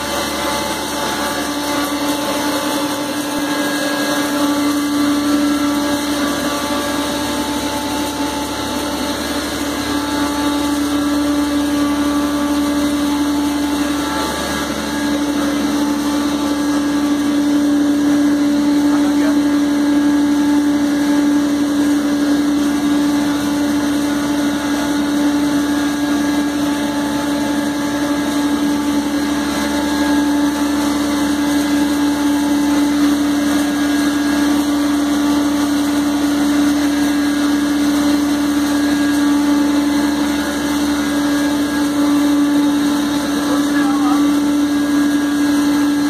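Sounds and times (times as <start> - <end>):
grinding mill motor hum: 0.0 - 46.0.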